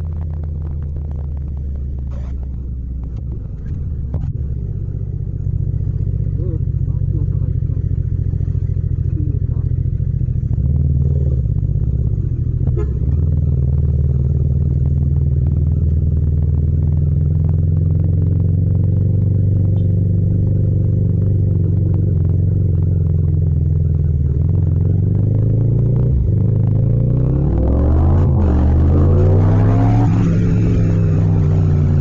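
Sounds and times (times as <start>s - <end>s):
motorcycle engine running at low revs: 0.0s - 32.0s.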